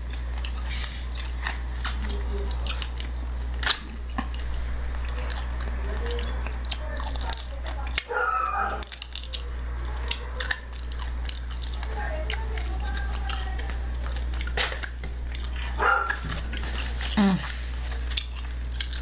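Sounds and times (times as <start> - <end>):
chewing meat: 0.0 - 19.0.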